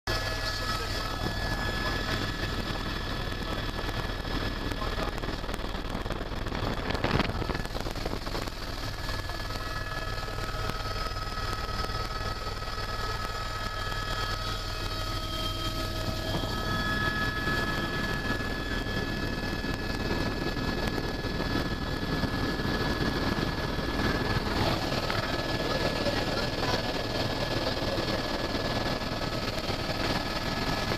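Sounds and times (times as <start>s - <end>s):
helicopter rotor and engine drone: 0.1s - 30.9s
high turbine whine: 0.1s - 30.9s.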